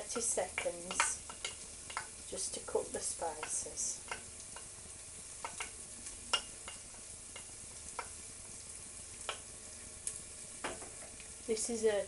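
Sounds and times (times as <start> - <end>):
sharp clicks in frying oil: 0.0 - 11.8
garlic sizzling in oil: 0.0 - 12.0.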